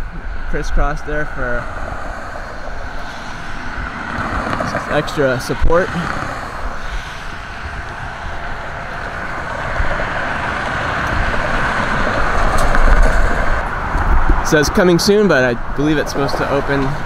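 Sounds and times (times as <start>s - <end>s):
road traffic with tyre hiss: 0.0s - 17.0s
vehicle passing: 0.0s - 17.0s.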